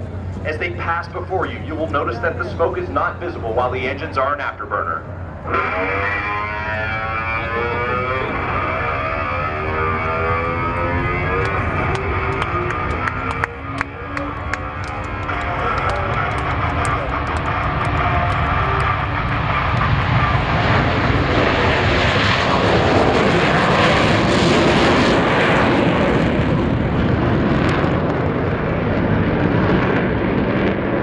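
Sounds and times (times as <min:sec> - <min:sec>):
jet engines roaring past: 0:00.0 - 0:31.0.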